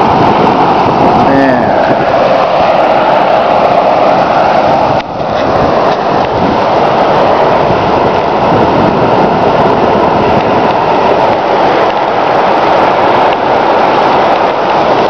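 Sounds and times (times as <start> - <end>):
water rushing over road: 0.0 - 15.0.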